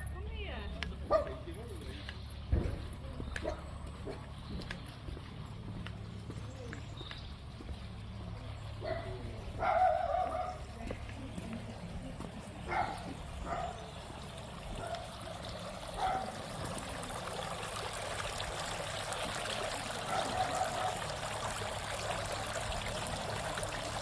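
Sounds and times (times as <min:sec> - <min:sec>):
running water trickling: 0:00.0 - 0:24.0.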